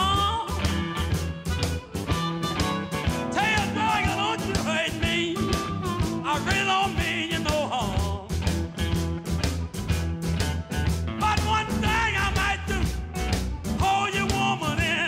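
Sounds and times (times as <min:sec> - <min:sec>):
blues band playing: 0:00.0 - 0:15.0.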